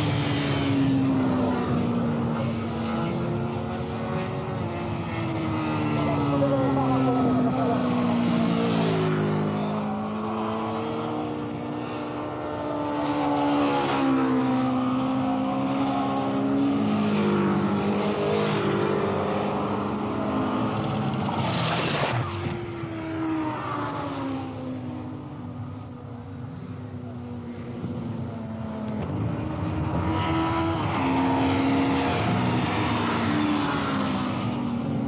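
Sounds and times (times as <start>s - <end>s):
motorcycle passing close: 0.0s - 35.0s
racing motorcycles accelerating: 0.0s - 35.0s.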